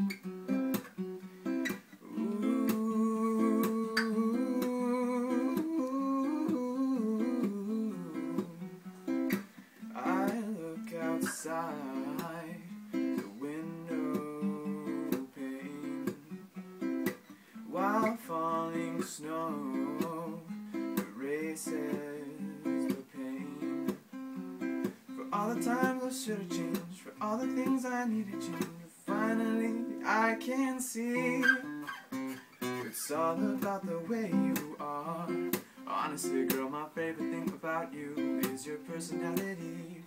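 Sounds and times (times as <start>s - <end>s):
acoustic guitar chords: 0.0s - 40.0s
man singing: 2.0s - 8.9s, 9.8s - 16.4s, 17.6s - 24.0s, 25.1s - 32.0s, 32.6s - 40.0s.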